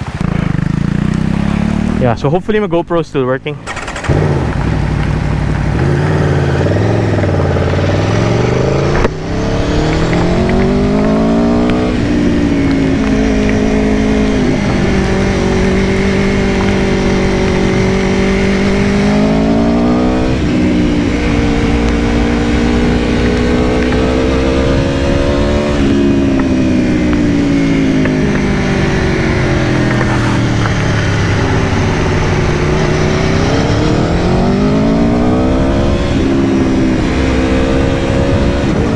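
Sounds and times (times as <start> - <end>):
motorcycle engine accelerating: 0.0 - 2.4, 3.5 - 38.9.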